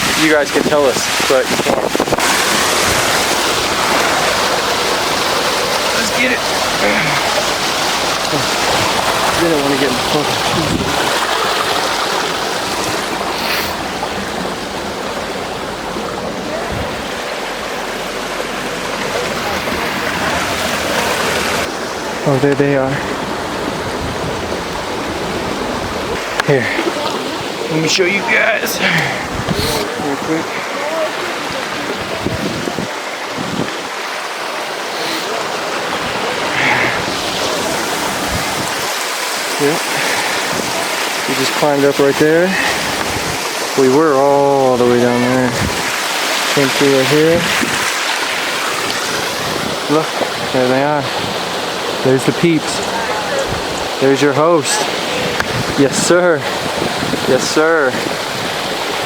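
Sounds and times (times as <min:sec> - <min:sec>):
wind buffeting microphone: 0:00.0 - 0:22.2, 0:22.9 - 0:27.7, 0:28.8 - 0:34.1, 0:35.8 - 0:39.0, 0:42.6 - 0:43.7, 0:45.4 - 0:46.1, 0:47.3 - 0:52.0, 0:52.8 - 0:54.0, 0:54.9 - 0:59.0
flowing water: 0:00.0 - 0:59.0.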